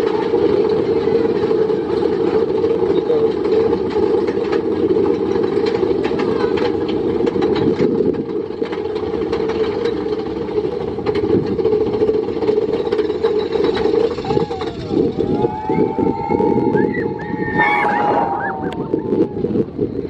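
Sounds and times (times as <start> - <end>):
roller coaster rumbling on track: 0.0 - 20.0
wheels clicking and rattling: 0.0 - 20.0.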